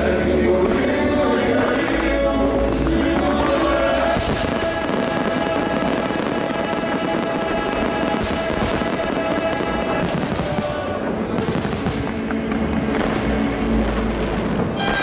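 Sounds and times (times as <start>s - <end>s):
fireworks bangs: 0.0s - 15.0s
fireworks crackling: 0.0s - 15.0s
show music with held notes: 0.0s - 15.0s.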